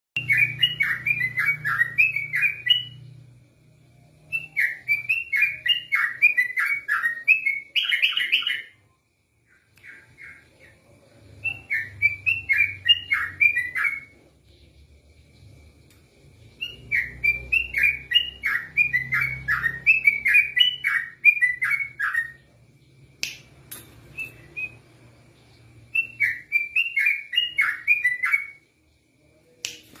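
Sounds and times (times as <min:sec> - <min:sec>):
bulbul singing whistled notes: 0:00.2 - 0:03.2, 0:04.2 - 0:14.6, 0:16.4 - 0:22.6, 0:24.1 - 0:28.7.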